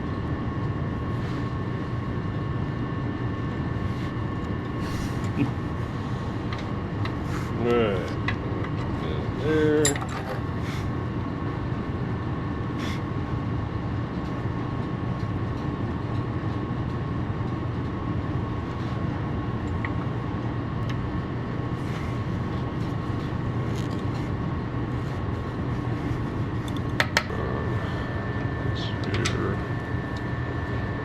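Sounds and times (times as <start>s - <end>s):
faint whine: 0.0s - 31.0s
steady mechanical drone: 0.0s - 31.0s.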